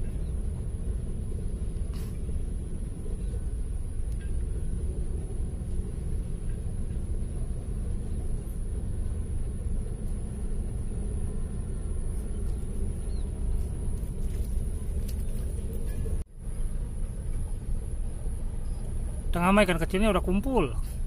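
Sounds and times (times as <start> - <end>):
high-pitched whine: 0.0 - 21.0
low outdoor rumble: 0.0 - 21.0.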